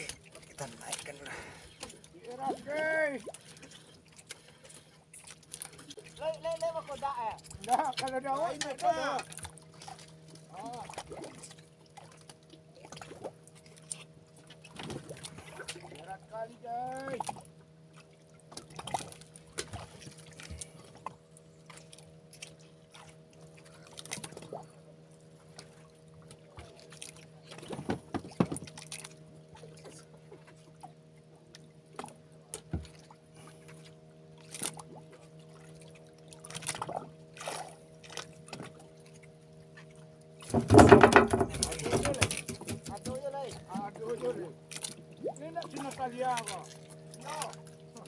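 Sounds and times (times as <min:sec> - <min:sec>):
small splashes and knocks: 0:00.0 - 0:16.2, 0:16.9 - 0:48.0
steady low hum: 0:00.0 - 0:48.0.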